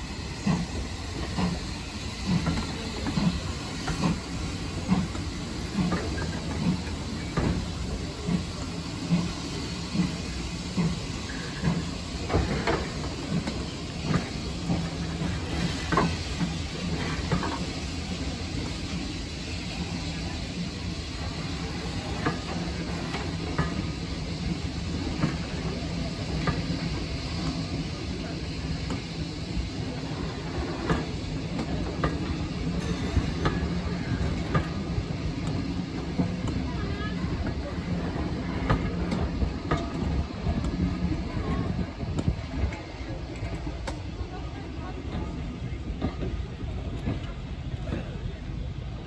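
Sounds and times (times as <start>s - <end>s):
train coaches rumbling past: 0.0s - 49.0s.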